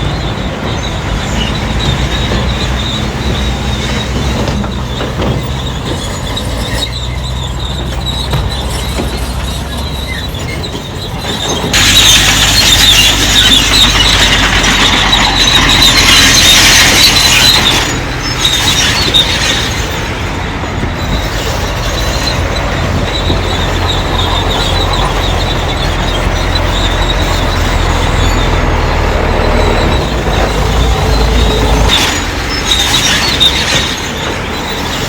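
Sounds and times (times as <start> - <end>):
diesel machinery running: 0.0 - 35.0
high metallic squeal and grinding: 0.0 - 35.0.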